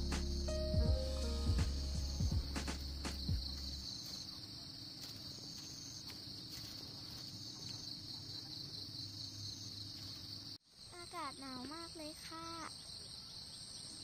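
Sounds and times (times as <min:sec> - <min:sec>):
high-pitched insect chorus trilling: 0:02.2 - 0:14.0.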